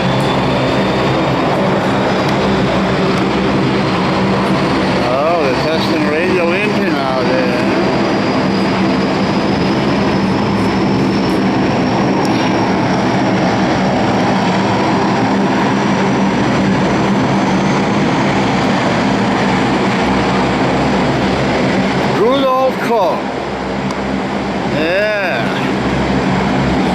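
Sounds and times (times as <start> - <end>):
aircraft engine running: 0.0 - 26.9
faint high whine: 0.0 - 26.9.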